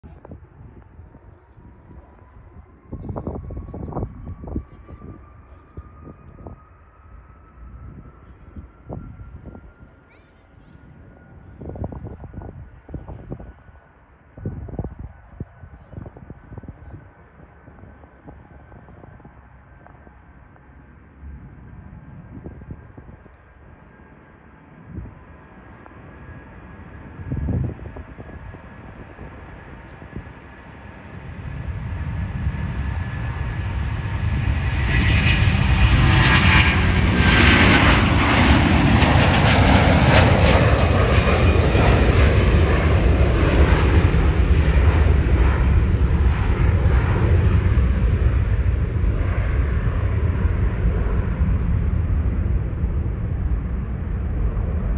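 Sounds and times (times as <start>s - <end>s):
jet engines at takeoff thrust: 0.1s - 54.9s.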